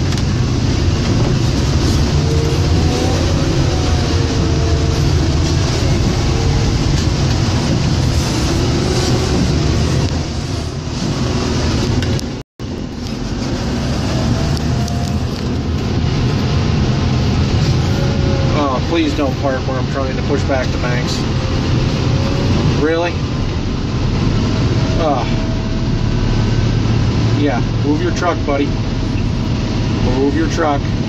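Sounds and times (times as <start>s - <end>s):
wheel loader diesel engine rumble: 0.0s - 31.0s.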